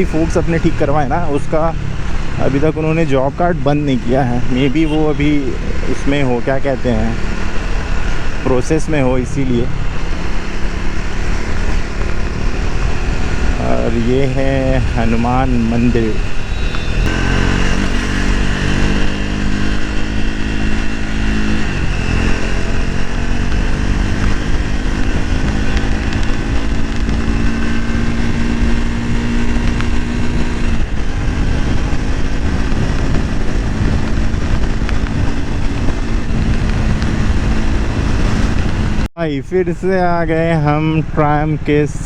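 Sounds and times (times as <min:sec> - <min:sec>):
motorcycle engine running: 0:00.0 - 0:39.1.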